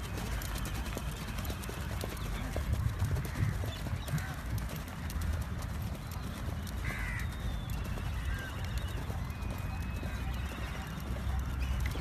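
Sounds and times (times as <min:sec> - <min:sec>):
horse hoofbeats on sand: 0:00.0 - 0:12.0.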